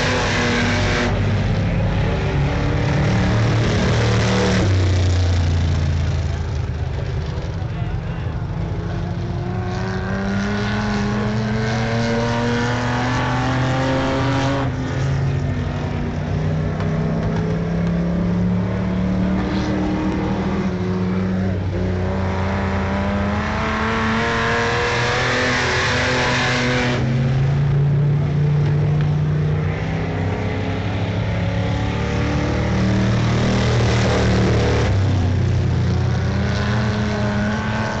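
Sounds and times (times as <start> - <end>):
race car engines accelerating: 0.0 - 38.0.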